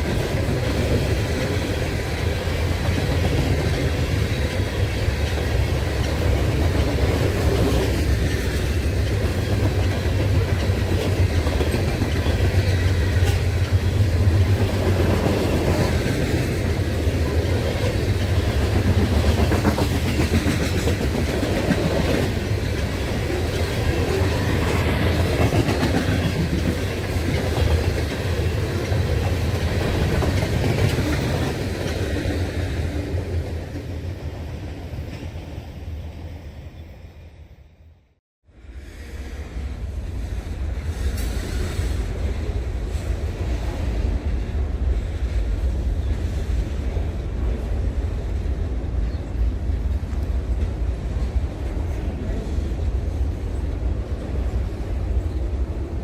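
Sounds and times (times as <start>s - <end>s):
train rumbling by: 0.0s - 56.0s.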